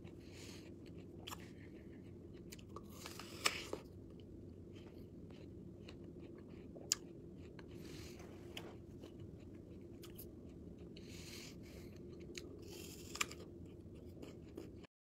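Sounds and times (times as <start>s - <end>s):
person chewing crunchy food: 0.0s - 14.9s.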